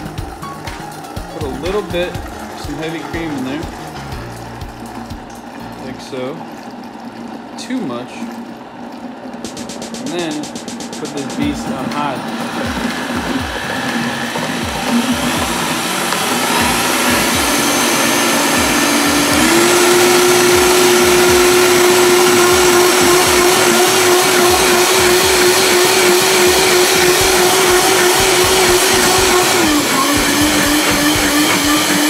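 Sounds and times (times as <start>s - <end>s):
blender motor whine: 0.0s - 32.0s.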